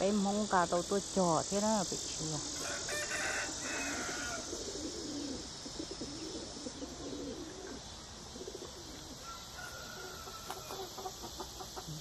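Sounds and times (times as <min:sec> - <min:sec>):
dove cooing: 0:02.4 - 0:12.0.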